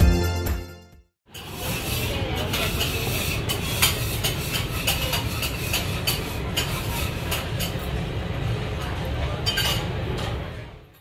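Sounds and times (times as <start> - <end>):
kitchen and dining din: 1.3 - 11.0.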